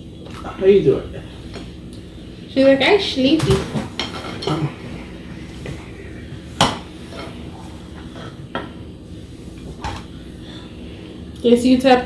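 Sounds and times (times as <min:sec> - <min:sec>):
dishes and utensils clinking: 0:00.2 - 0:12.0.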